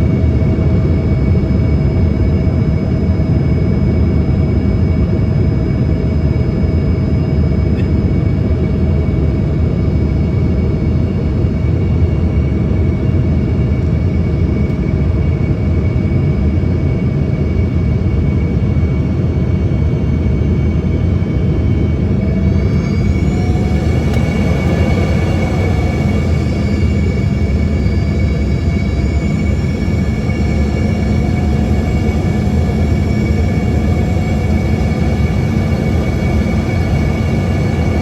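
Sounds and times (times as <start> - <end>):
airflow rumble in aircraft cabin: 0.0 - 38.0
jet engine whine: 0.0 - 38.0.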